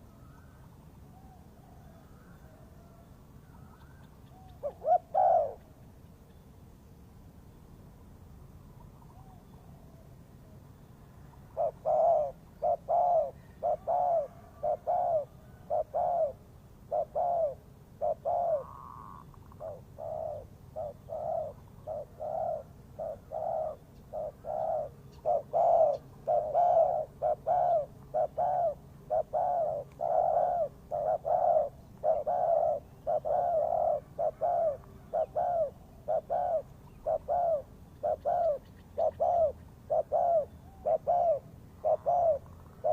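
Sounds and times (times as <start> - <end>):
dove cooing: 1.1 - 5.7, 11.4 - 42.9.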